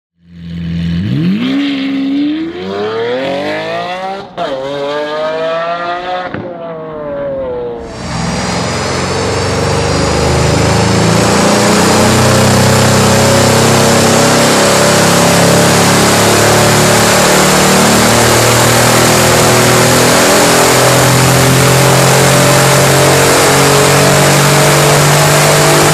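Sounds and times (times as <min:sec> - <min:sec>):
car engine revving: 0:00.2 - 0:25.9.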